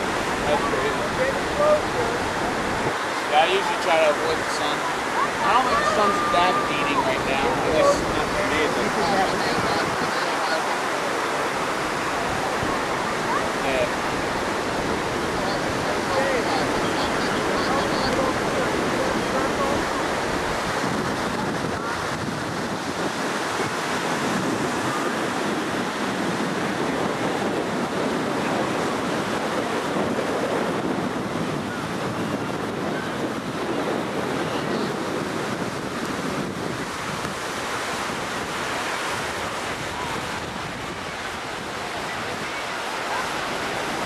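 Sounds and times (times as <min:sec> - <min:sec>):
ocean surf washing ashore: 0:00.0 - 0:44.0
wind buffeting microphone: 0:00.0 - 0:44.0.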